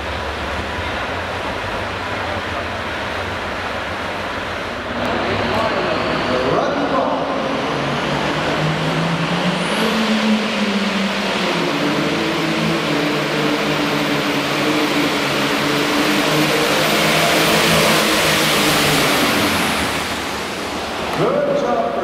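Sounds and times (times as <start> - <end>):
diesel tractor engine under load: 0.0 - 22.0.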